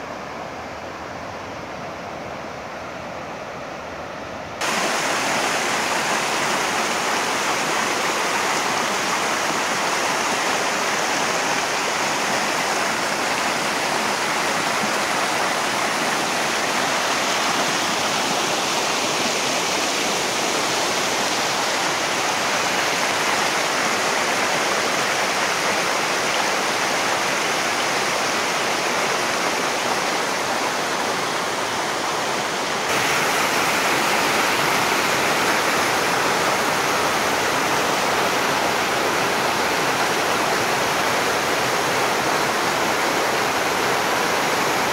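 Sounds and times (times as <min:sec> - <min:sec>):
stream rushing over rocks: 0:00.0 - 0:44.9.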